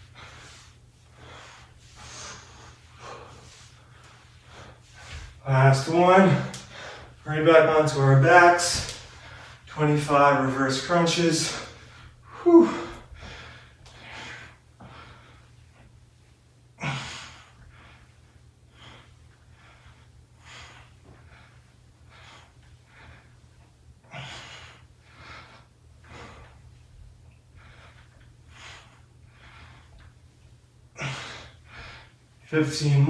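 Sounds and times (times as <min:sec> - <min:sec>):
man breathing hard: 0:00.0 - 0:05.4, 0:06.1 - 0:07.8, 0:08.5 - 0:09.7, 0:11.2 - 0:16.0, 0:16.7 - 0:30.2, 0:30.9 - 0:32.5
steady low hum: 0:00.0 - 0:33.0.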